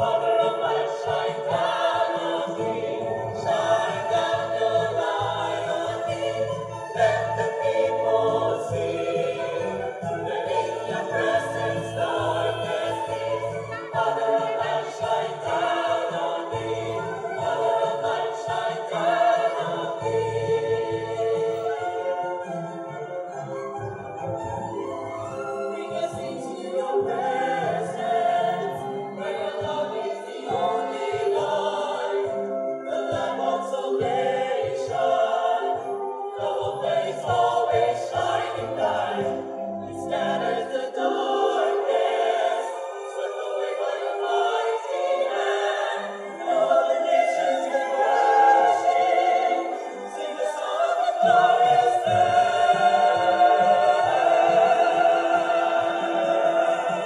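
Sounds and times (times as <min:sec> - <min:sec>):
mixed choir singing in harmony: 0:00.0 - 0:57.0.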